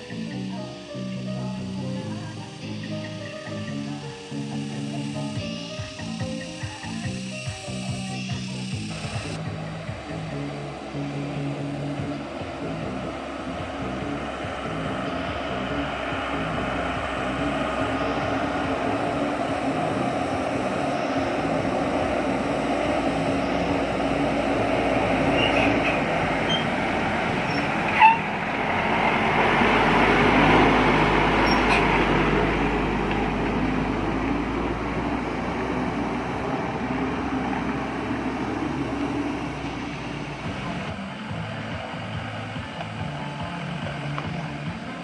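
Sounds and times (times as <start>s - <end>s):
steady machine noise: 0.0s - 45.0s.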